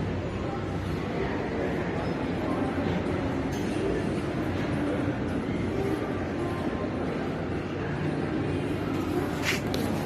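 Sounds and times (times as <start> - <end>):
shopping mall ambient hum: 0.0 - 10.0.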